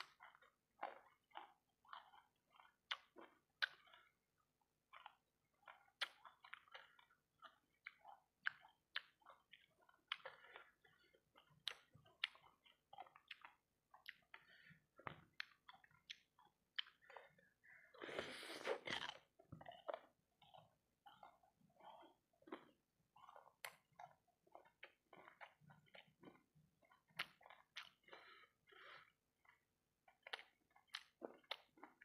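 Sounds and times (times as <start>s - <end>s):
wet chewing and crunching: 0.0s - 32.0s.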